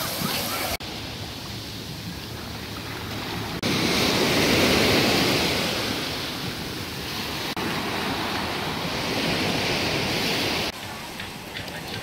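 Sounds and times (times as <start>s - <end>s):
waves washing up beach: 0.0s - 12.0s.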